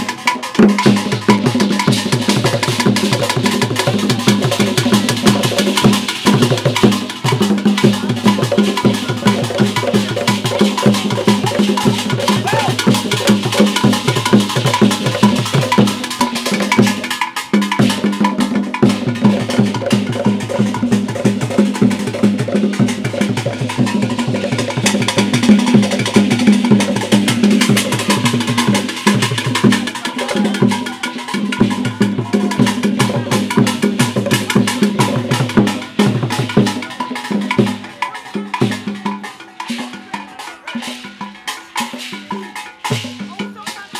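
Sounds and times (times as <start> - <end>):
wooden hand drums beating fast: 0.0 - 43.9.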